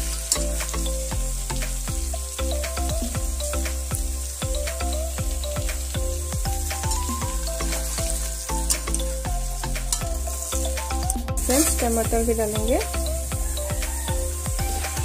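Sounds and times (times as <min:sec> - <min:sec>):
background music: 0:00.0 - 0:15.0
meat and onion sizzling: 0:00.0 - 0:15.0.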